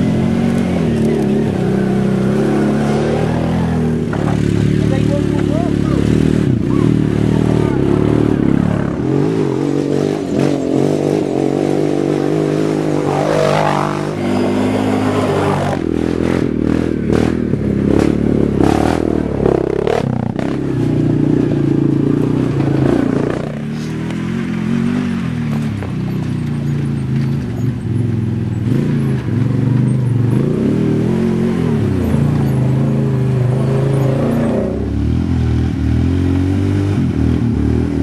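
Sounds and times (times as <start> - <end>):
quad engine revving: 0.0 - 26.1, 28.7 - 38.0.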